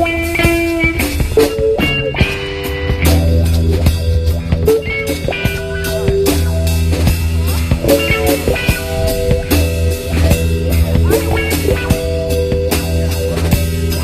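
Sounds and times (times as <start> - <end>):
drum beat: 0.0 - 14.0
guitar holding notes: 0.0 - 14.0
heavy bass line: 0.0 - 14.0.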